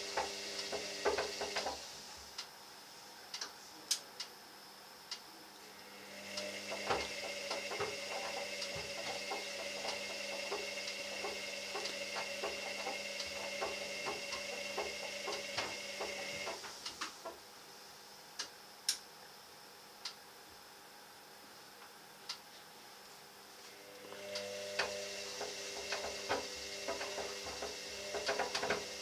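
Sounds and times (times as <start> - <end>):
dryer motor hum: 0.0 - 29.0.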